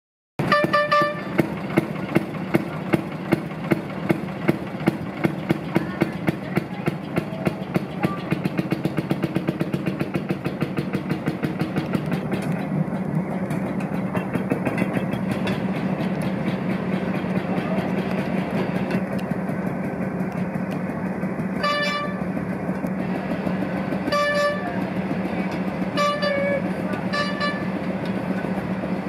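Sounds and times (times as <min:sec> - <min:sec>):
small engine pulling away: 0:00.4 - 0:29.0.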